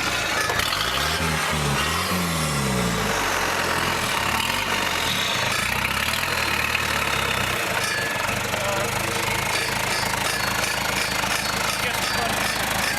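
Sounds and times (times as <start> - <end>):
diesel engine revving and idling: 0.0 - 12.9.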